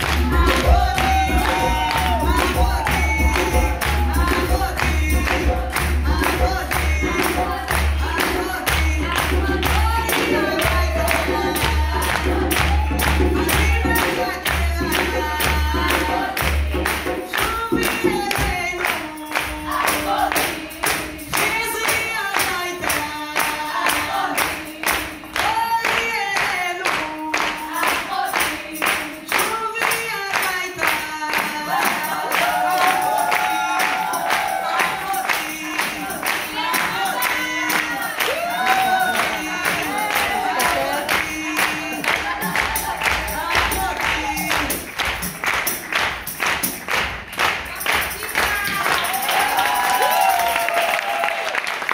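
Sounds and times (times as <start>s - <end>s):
rhythmic hand clapping: 0.0s - 51.9s
women singing flamenco: 0.0s - 51.9s.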